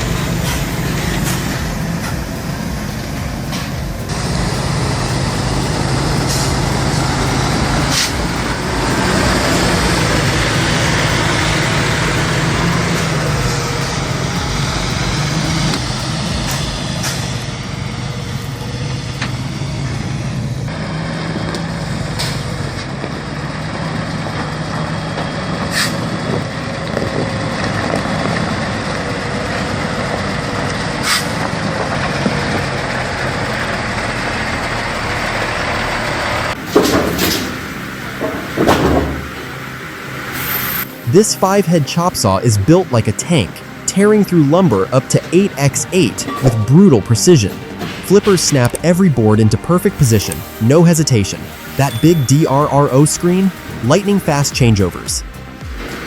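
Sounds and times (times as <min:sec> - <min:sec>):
loud irregular noises: 0:00.0 - 0:56.0
truck diesel engine running: 0:00.0 - 0:56.0.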